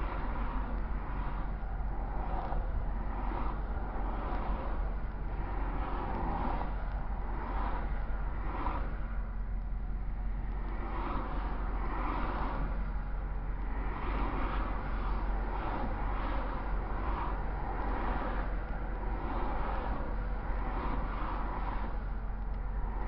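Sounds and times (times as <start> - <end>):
freeway traffic passing: 0.0 - 23.0
steady low hum: 0.0 - 23.0.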